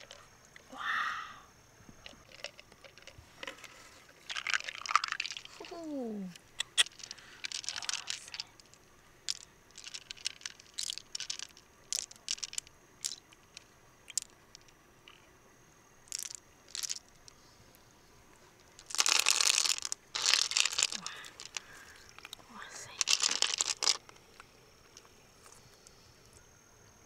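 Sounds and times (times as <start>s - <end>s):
mussel shells clicking and scraping: 0.0s - 0.6s, 2.0s - 5.7s, 6.3s - 15.3s, 16.0s - 17.4s, 18.5s - 25.8s.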